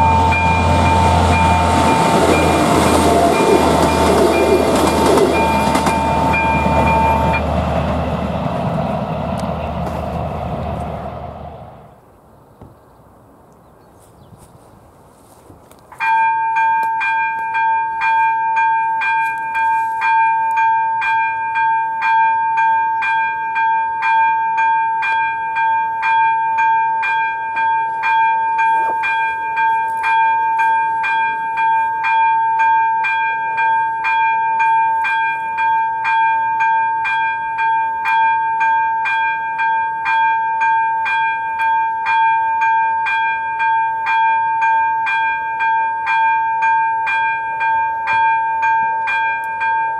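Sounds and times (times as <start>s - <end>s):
level-crossing electronic bell ringing: 0.0s - 7.5s, 16.0s - 49.9s.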